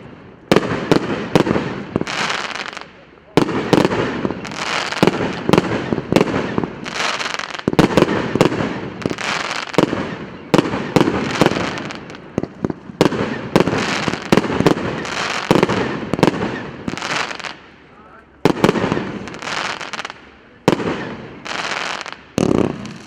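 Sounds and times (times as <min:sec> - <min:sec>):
firework bangs: 0:00.0 - 0:17.8, 0:18.4 - 0:23.0.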